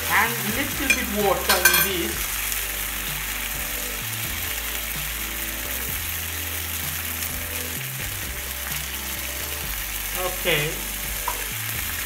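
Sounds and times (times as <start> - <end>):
background music with low notes: 0.0 - 12.0
onions sizzling in a frying pan: 0.0 - 12.0
water pouring into pan: 0.0 - 12.0.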